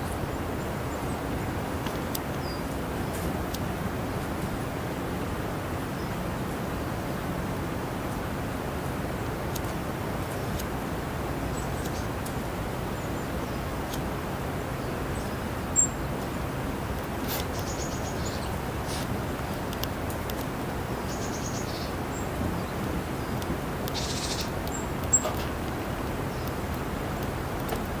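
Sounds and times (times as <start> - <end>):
faint fire crackles: 0.0 - 28.0.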